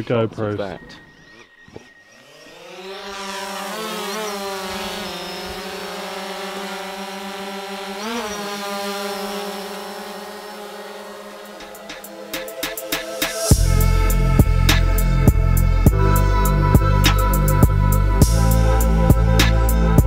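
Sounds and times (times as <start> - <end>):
drone propellers buzzing: 1.3 - 20.0.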